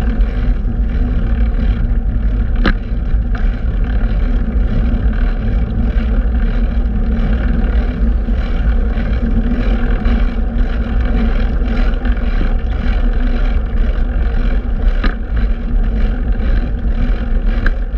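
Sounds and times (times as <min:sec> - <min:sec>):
road and traffic rumble: 0:00.0 - 0:17.9
wind on microphone: 0:00.0 - 0:17.9.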